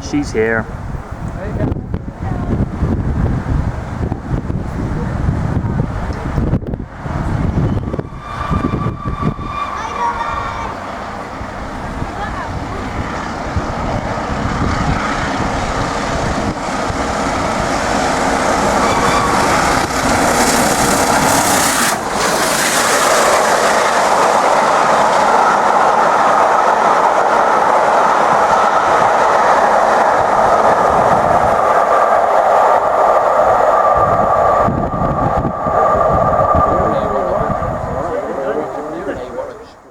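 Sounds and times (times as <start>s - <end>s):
train wheels rushing on rails: 0.0s - 39.9s.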